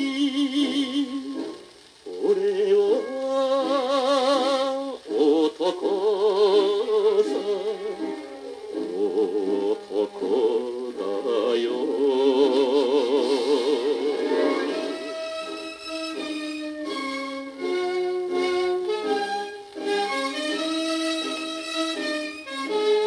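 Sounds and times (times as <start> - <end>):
popular song record: 0.0 - 23.0.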